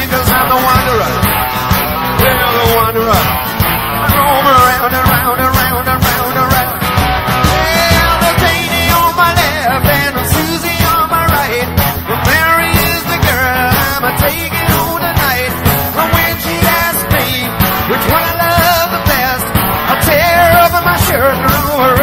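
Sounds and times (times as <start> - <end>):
bass: 0.0 - 22.0
drums: 0.0 - 22.0
lead guitar line bending: 0.0 - 22.0.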